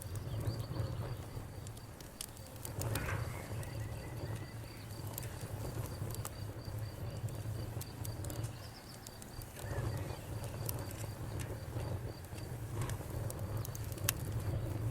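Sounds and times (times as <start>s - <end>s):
cricket chirping: 0.0s - 12.5s
campfire crackling and popping: 0.0s - 14.9s.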